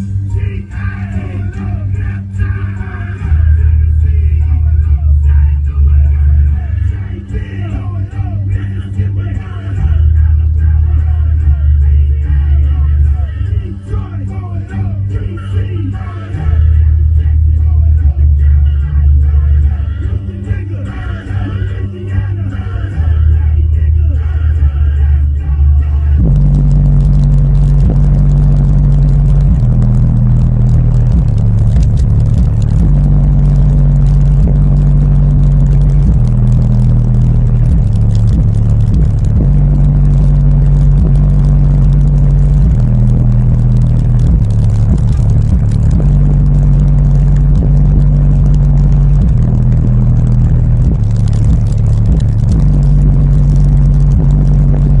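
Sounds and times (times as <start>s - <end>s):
subwoofer playing deep bass: 0.0s - 55.0s.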